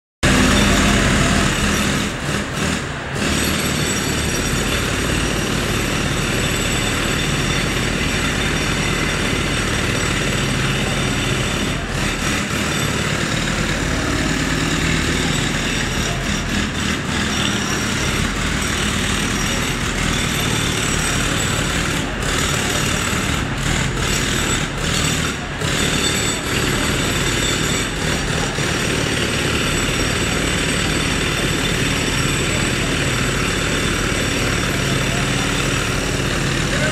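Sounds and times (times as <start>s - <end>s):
roadworks machinery din: 0.2s - 36.9s.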